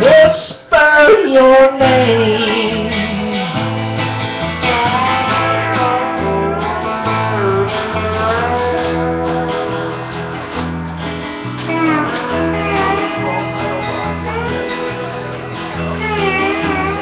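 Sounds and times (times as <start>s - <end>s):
bass notes: 0.0s - 17.0s
plucked guitar melody: 0.0s - 17.0s.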